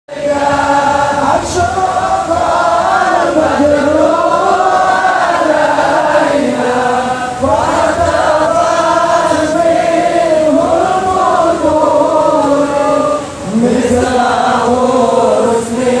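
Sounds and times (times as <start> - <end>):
crowd singing devotional chant: 0.1 - 16.0.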